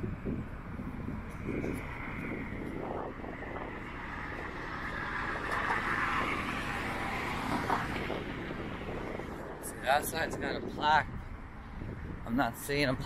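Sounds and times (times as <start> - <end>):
vehicle going by: 0.0 - 12.2
road traffic passing: 0.0 - 13.0.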